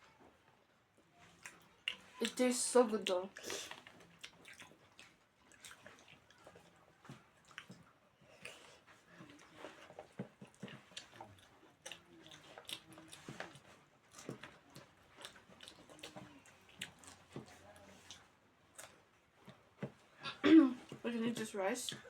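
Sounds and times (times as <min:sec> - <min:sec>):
people chewing food: 0:00.0 - 0:22.0.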